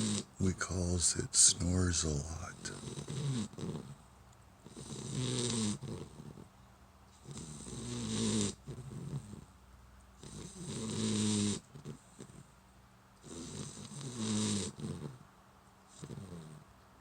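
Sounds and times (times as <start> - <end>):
puppy snoring: 0.0 - 6.5, 7.1 - 9.6, 10.2 - 12.6, 13.2 - 15.3, 15.9 - 16.8.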